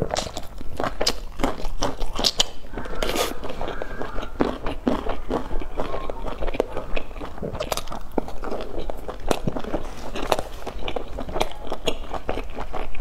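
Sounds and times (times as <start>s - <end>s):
mouth clicks: 0.0s - 13.0s
person chewing food: 0.0s - 13.0s.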